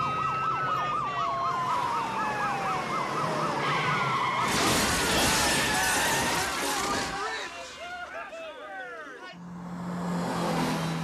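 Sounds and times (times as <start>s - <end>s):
police sirens yelping and wailing: 0.0s - 9.4s.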